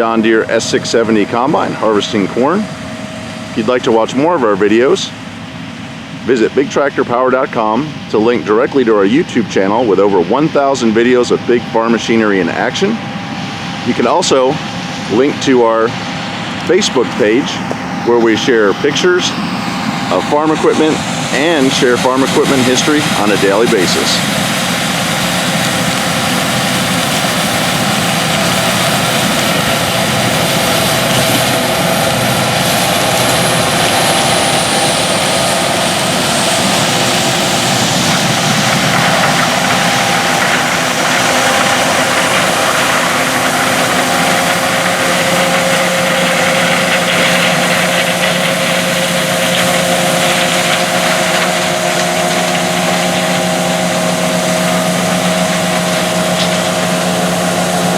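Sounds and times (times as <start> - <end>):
combine machine drone: 0.0 - 57.9.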